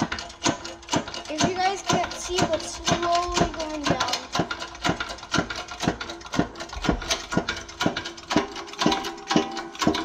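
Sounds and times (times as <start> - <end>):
hydraulic press pumping: 0.0 - 10.0.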